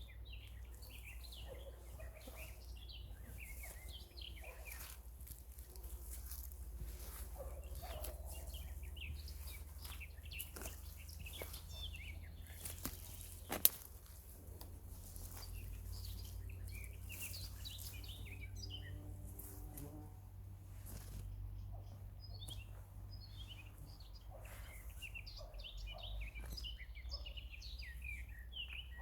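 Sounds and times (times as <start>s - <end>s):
songbirds chirping and singing: 0.0s - 29.0s.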